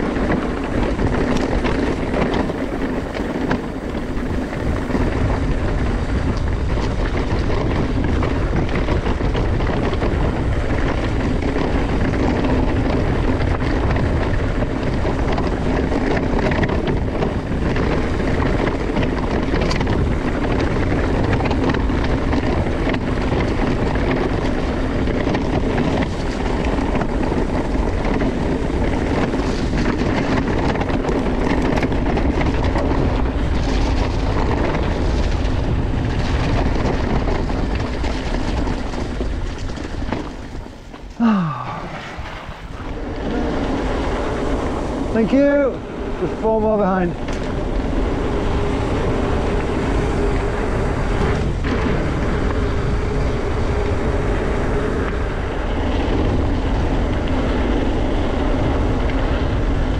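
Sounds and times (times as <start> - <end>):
bike rattling: 0.0 - 59.9
tyres rumbling: 0.0 - 59.9
wind on microphone: 0.0 - 59.9.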